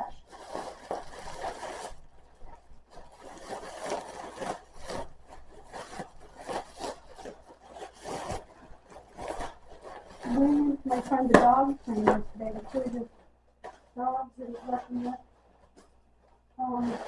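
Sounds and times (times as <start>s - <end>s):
packaging rustling and scraping: 0.0s - 17.0s.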